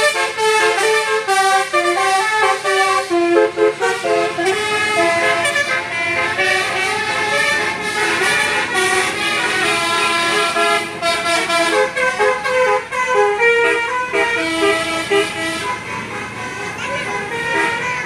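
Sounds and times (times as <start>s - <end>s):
bus musical horn playing a tune: 0.0s - 18.0s.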